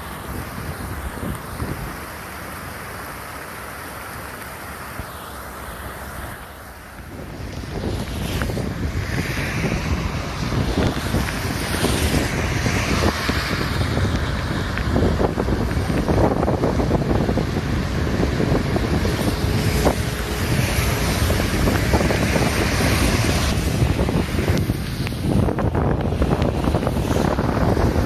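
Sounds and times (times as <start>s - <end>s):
wind buffeting microphone: 0.0s - 2.8s, 6.9s - 28.0s
rain: 0.0s - 28.0s.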